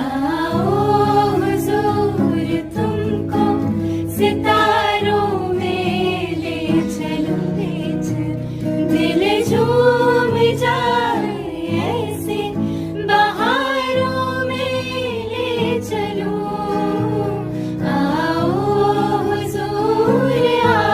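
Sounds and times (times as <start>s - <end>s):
song with sung vocals: 0.0s - 20.9s.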